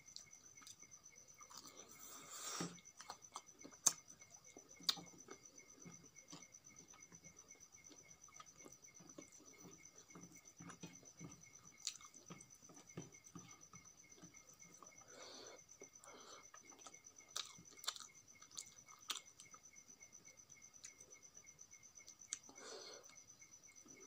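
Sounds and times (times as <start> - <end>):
chewing crispy food: 0.0 - 19.7.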